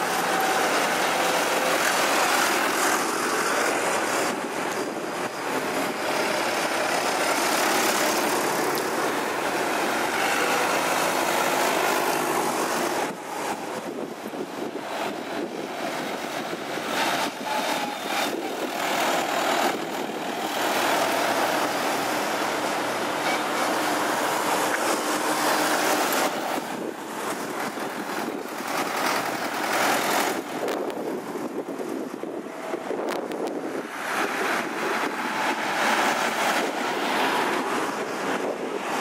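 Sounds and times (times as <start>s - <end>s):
tractor engines driving past: 0.0s - 39.0s.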